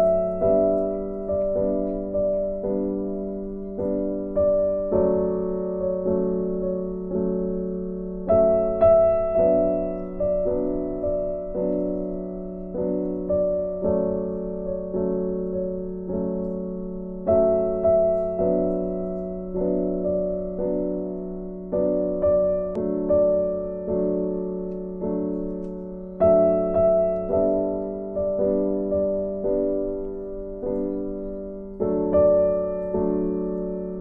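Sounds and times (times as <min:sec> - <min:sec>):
gentle piano music: 0:00.0 - 0:34.0.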